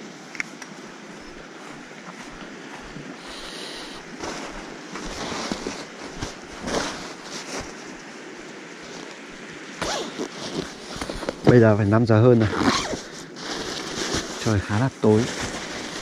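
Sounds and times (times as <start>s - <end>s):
wind: 0.0s - 16.0s
rustling and handling noise: 0.2s - 16.0s.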